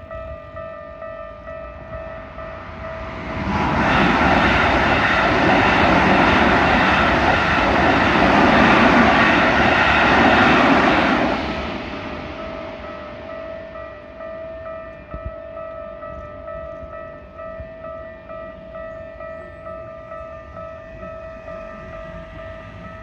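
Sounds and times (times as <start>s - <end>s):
level crossing warning bell: 0.0s - 23.0s
train wheel and rail noise: 0.0s - 23.0s.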